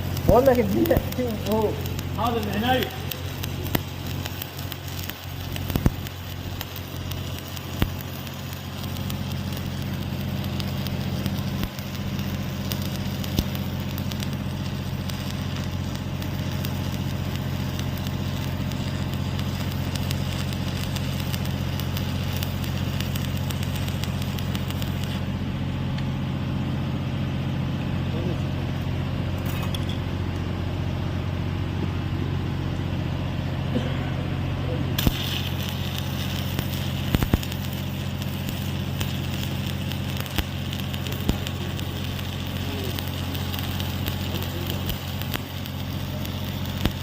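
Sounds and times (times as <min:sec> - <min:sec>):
welding arc crackle: 0:00.0 - 0:26.0, 0:35.0 - 0:47.0
welding machine hum: 0:00.0 - 0:47.0.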